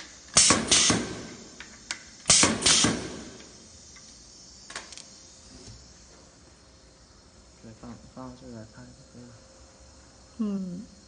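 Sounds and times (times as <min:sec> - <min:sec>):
crimping machine air hisses: 0:00.0 - 0:11.0.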